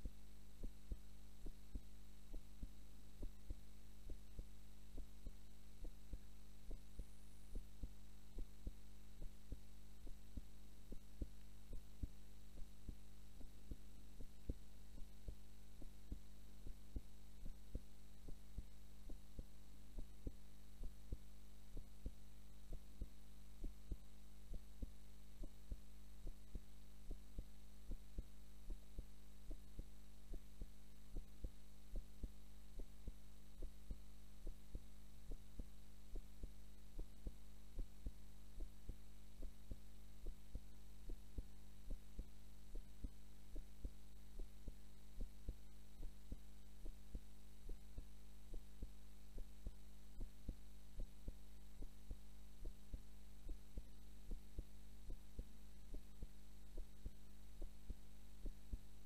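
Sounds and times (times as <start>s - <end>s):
constant low hum: 0.0s - 59.0s
heartbeat thumps: 0.0s - 59.0s.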